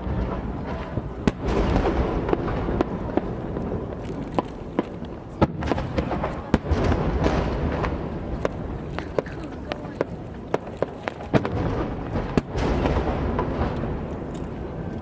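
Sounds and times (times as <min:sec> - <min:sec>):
firework cracks and pops: 0:00.0 - 0:15.0
firework shells booming: 0:00.0 - 0:15.0.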